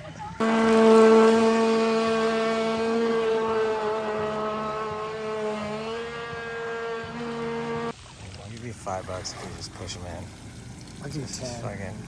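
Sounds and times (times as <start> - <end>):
motorboat engine running: 0.1 - 12.0.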